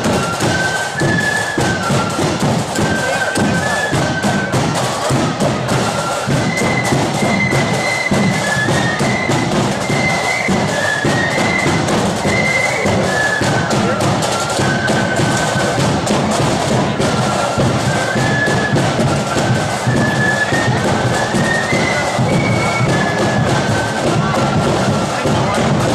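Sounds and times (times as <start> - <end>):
drum beat: 0.0 - 25.9
flutes playing tune: 0.0 - 25.9.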